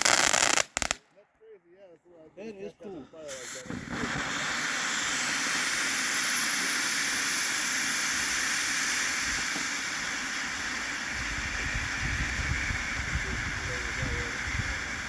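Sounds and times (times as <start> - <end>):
firework sparks hissing: 0.0 - 1.0, 2.6 - 15.0.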